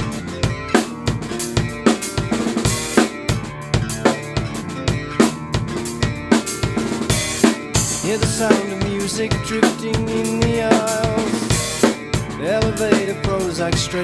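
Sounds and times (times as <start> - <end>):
drum kit playing: 0.0 - 14.0
sustained guitar and bass: 0.0 - 14.0.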